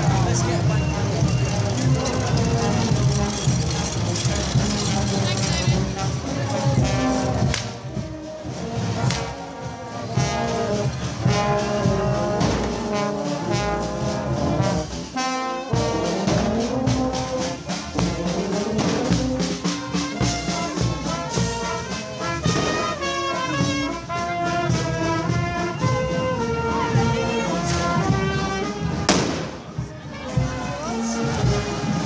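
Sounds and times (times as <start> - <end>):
brass band marching: 0.0 - 32.0.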